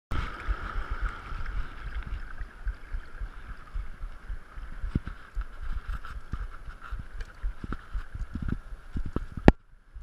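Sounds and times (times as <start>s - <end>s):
waves washing over reef: 0.1s - 9.6s
wind buffeting microphone: 0.1s - 10.0s.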